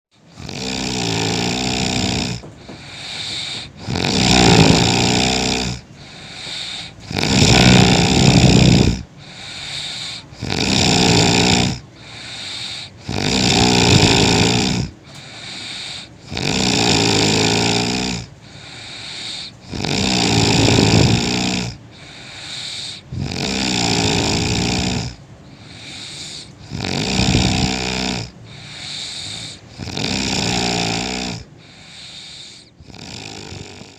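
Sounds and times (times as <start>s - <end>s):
loud rasping snoring: 0.2s - 33.9s
quiet breathing: 0.2s - 33.9s.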